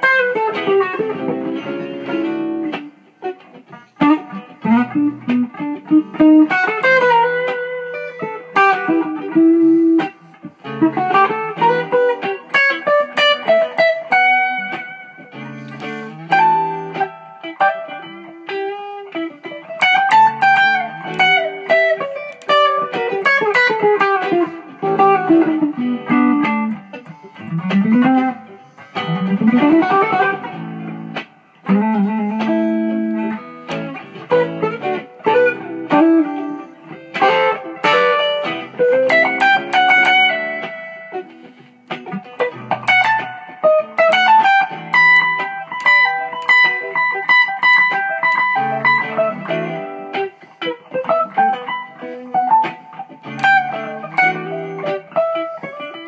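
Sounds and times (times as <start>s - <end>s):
electric guitar solo: 0.0s - 56.0s.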